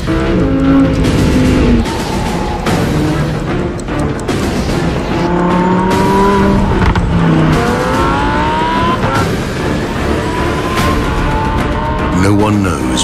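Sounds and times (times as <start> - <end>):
sports car engine accelerating: 0.0 - 12.1.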